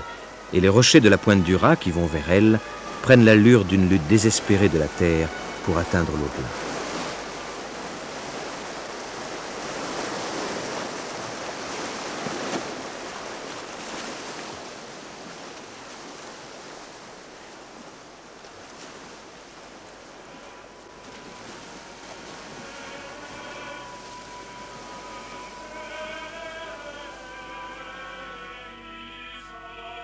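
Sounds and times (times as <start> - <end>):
faint steady tone: 0.0 - 30.0
waves washing in: 0.0 - 30.0.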